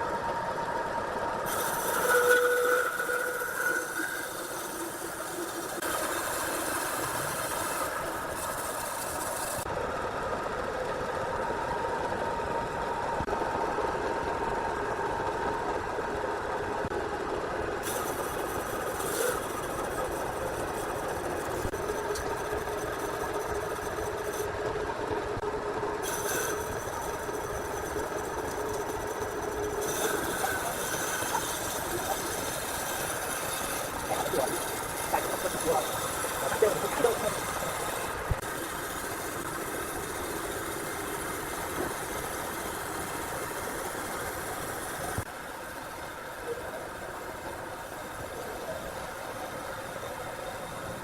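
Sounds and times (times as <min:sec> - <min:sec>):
sawmill machinery hum and whine: 0:00.0 - 0:51.0.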